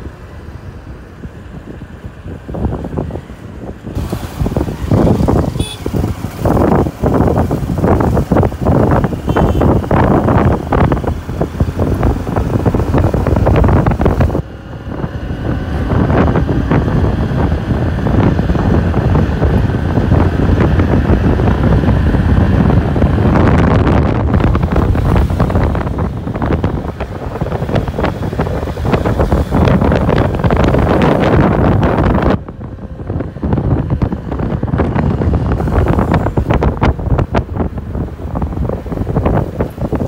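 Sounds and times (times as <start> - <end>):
vehicle road rumble: 0.0 - 40.0
wind buffeting on microphone: 0.0 - 40.0.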